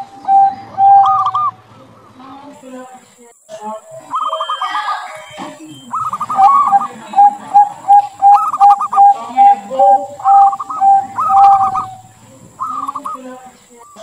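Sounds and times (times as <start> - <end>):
dove cooing: 0.0 - 2.2, 3.8 - 14.0
high bird trill: 0.0 - 2.4, 3.8 - 14.0.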